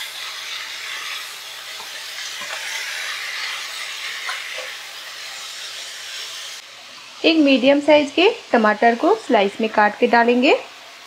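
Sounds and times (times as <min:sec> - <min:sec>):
vegetables frying in oil: 0:00.0 - 0:11.0.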